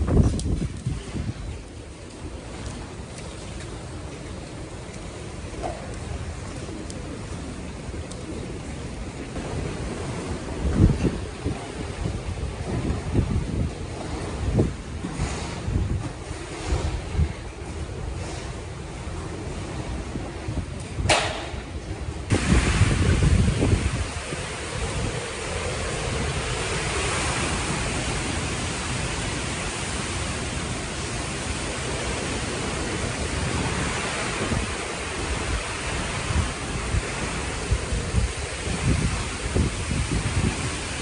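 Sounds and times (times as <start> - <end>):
strong wind blowing: 0.0 - 41.0
wind buffeting microphone: 0.0 - 41.0.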